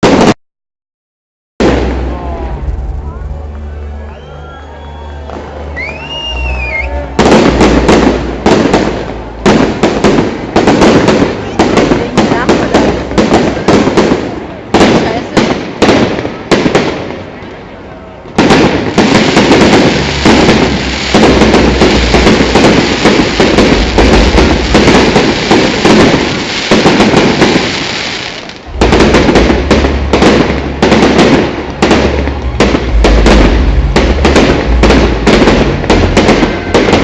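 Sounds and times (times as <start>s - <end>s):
fireworks bangs and crackling: 0.0s - 0.4s, 1.6s - 3.6s, 5.0s - 37.0s.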